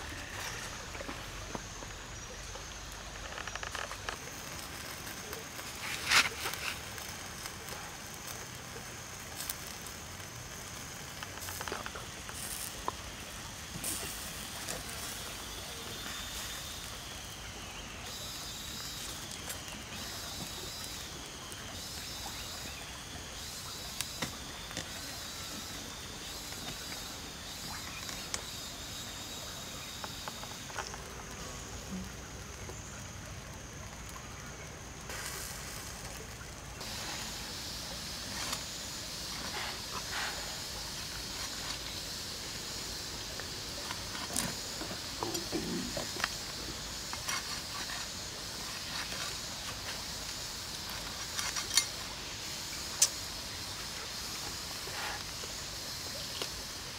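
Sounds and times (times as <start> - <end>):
chicken roasting over wood fire: 0.0 - 56.9
fire crackles: 0.0 - 56.9.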